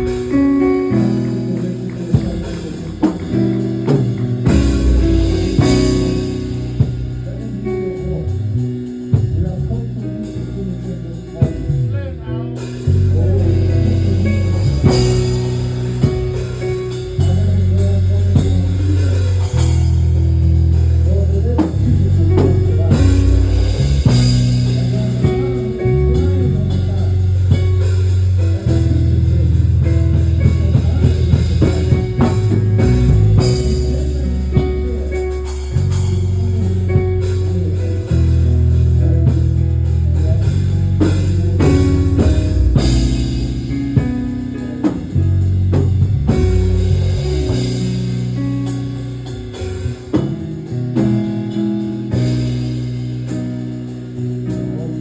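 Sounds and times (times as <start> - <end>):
bass guitar long low notes: 0.0 - 55.0
drum kit: 0.0 - 55.0
guitar: 0.0 - 55.0.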